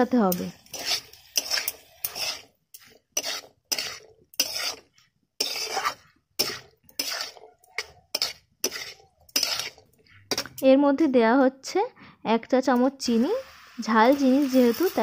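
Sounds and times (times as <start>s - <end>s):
metal spatula scraping a wok: 0.0s - 10.6s, 12.7s - 15.0s.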